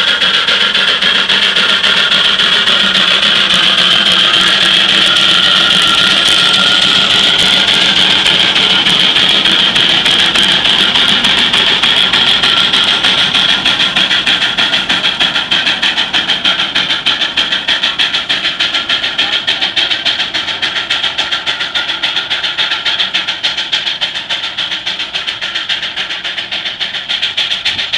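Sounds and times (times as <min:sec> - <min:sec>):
steam engine exhaust chuffs: 0:00.0 - 0:27.9.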